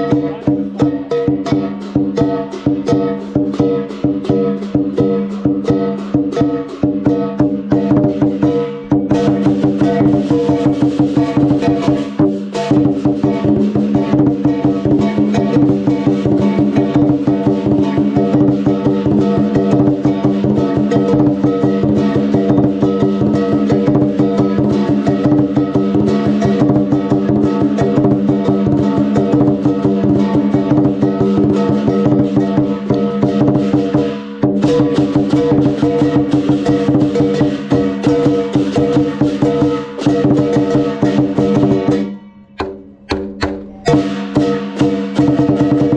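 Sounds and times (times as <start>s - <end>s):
cymbals ringing: 0.0s - 45.9s
large drum beaten fast: 0.0s - 45.9s.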